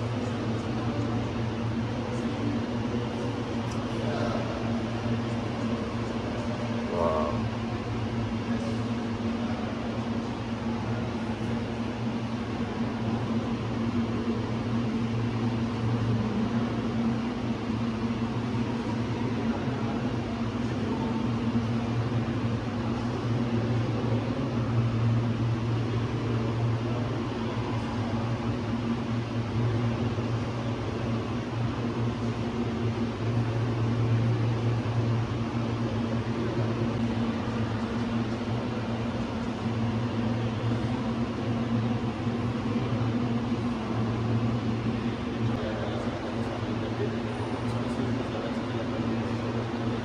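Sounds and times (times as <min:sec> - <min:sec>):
low mechanical hum: 0:00.0 - 0:50.0.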